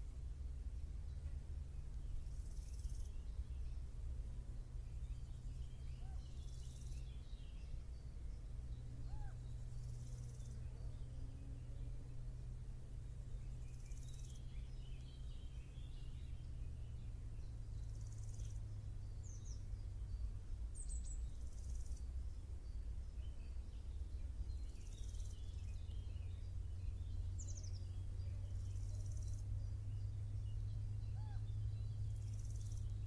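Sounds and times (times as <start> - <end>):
steady low hum: 0.0 - 33.0
bird chirps: 4.9 - 12.0, 13.2 - 33.0.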